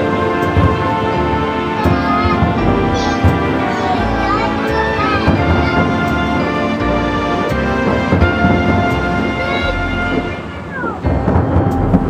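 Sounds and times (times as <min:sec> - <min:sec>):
fireworks booming: 0:00.0 - 0:12.0
music playing: 0:00.0 - 0:12.0.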